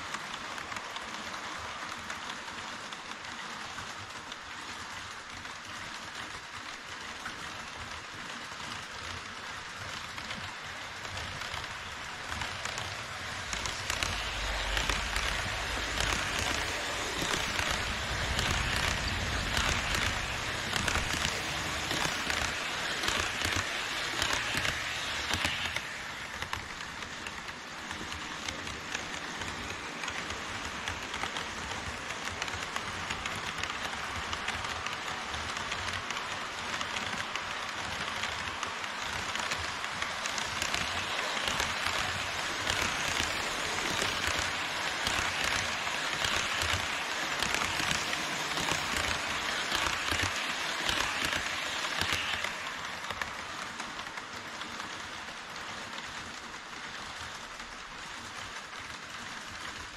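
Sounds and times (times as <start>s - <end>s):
model train wheels rattling on track: 0.0s - 59.9s.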